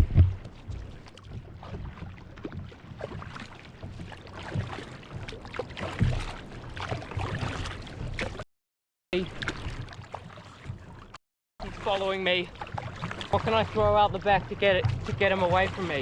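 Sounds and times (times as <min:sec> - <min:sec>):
water splashing around kayak: 0:00.0 - 0:08.5, 0:09.1 - 0:16.0.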